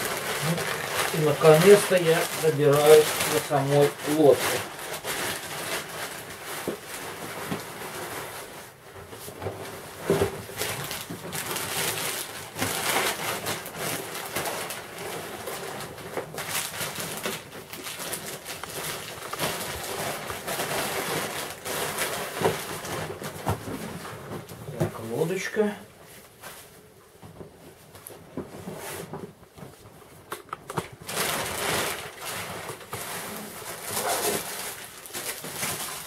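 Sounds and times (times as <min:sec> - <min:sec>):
boat fabric rustling and scraping: 0:00.0 - 0:30.3, 0:31.0 - 0:36.0
plastic wrapping crinkling: 0:00.0 - 0:36.0.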